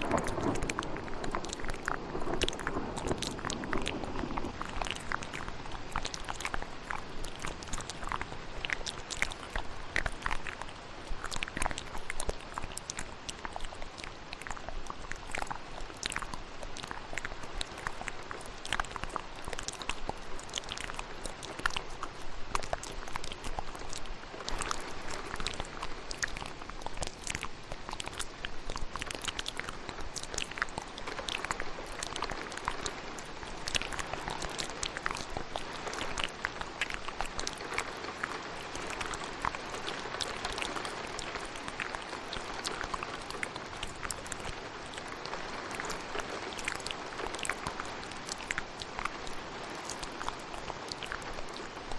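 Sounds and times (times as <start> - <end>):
steady rain hiss: 0.0 - 51.9
wet mouth clicks and smacks: 0.0 - 51.9.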